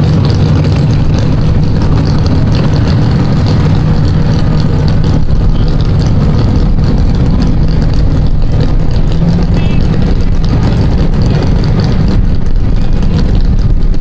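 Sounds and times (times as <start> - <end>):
truck engine running loud: 0.0 - 14.0.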